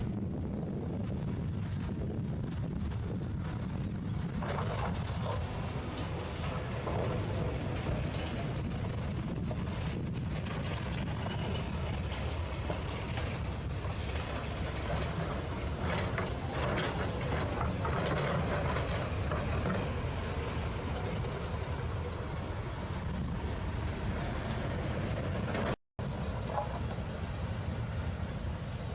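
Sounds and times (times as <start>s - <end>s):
machinery clanking and rattling: 0.0s - 27.4s
diesel machinery rumbling: 0.0s - 28.9s.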